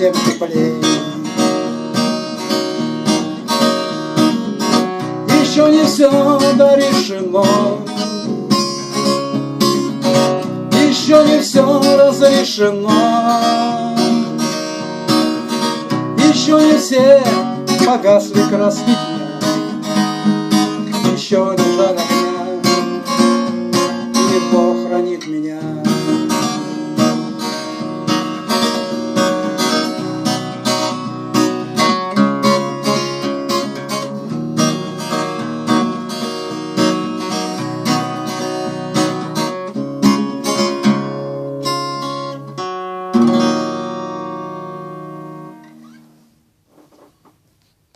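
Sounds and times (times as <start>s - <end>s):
acoustic guitar strumming: 0.0s - 47.3s.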